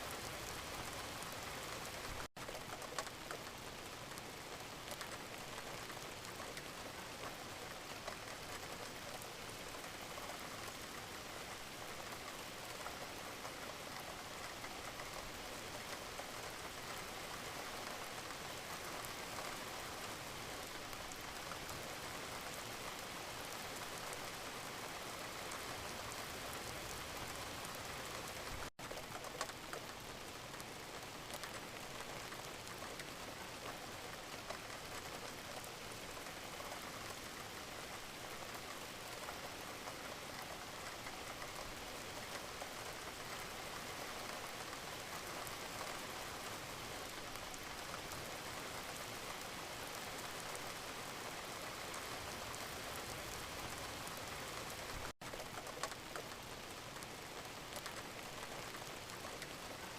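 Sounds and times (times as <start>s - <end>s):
gentle rain patter: 0.0s - 59.9s.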